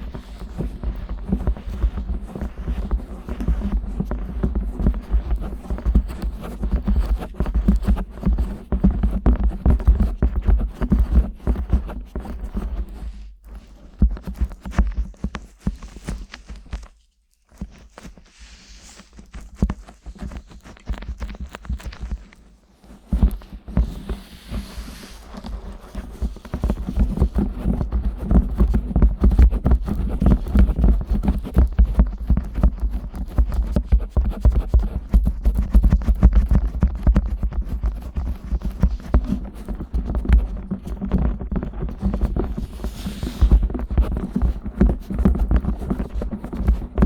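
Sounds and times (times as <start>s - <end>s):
hands rubbing microphone ears: 0.0s - 47.0s.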